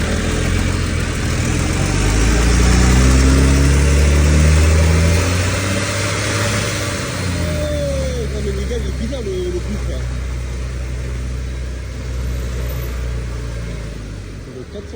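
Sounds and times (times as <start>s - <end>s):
bus engine running: 0.0s - 14.9s.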